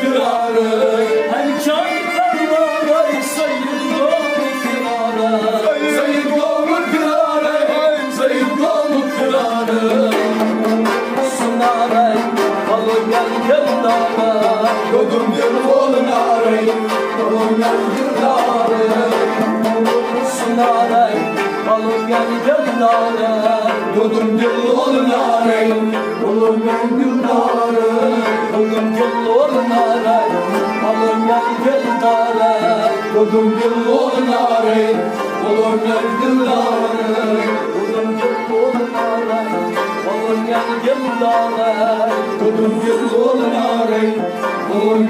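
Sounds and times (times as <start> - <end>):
harmonium melody: 0.0 - 45.0.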